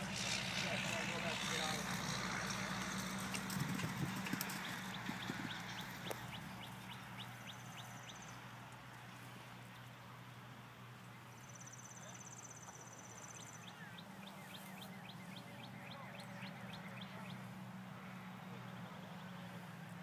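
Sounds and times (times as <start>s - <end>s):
birds chirping: 0.0s - 9.9s, 11.0s - 19.8s
small birds trilling: 0.2s - 8.5s, 11.4s - 19.4s.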